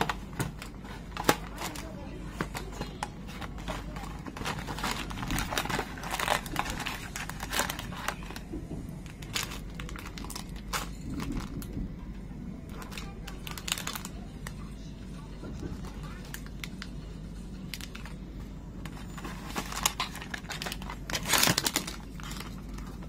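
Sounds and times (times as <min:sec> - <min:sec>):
plastic wrappers crinkling: 0:00.0 - 0:12.0, 0:12.6 - 0:23.0.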